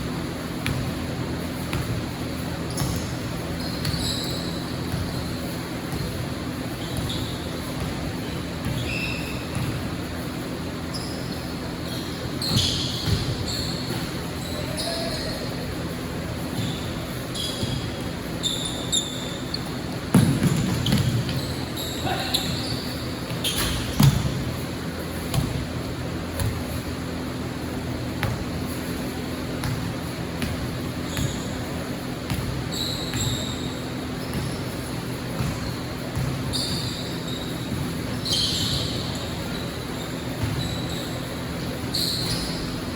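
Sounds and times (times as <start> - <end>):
sneakers squeaking on floor: 0.0 - 42.9
basketball bouncing on court: 0.1 - 42.9.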